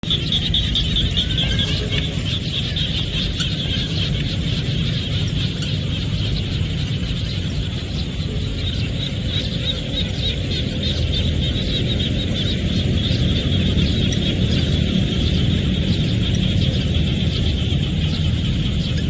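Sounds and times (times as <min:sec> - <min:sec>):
frogs and insects trilling: 0:00.0 - 0:19.0
steady low rumble: 0:00.0 - 0:19.0.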